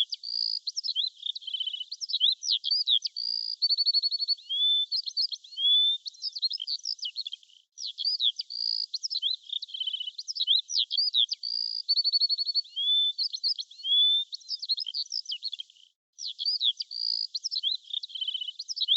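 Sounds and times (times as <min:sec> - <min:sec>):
birds chirping and trilling: 0:00.0 - 0:18.9.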